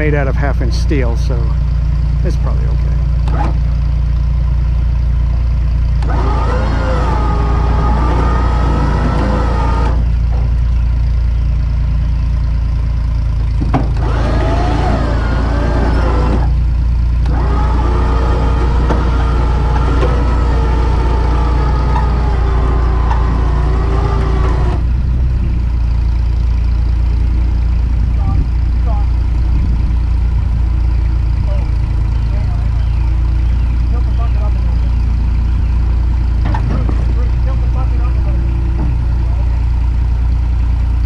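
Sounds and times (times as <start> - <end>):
engine running under load: 0.0 - 41.0.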